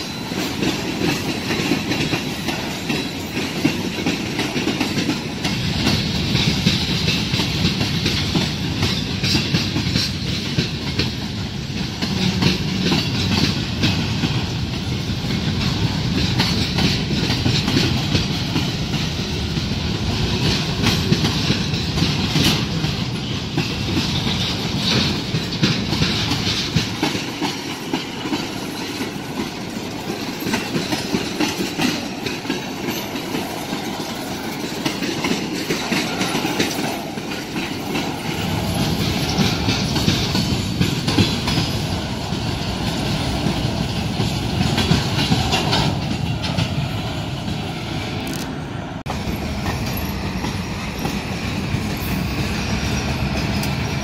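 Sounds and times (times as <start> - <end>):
wheels clacking over rail joints: 0.0 - 54.0
wheels rumbling on rails: 0.0 - 54.0.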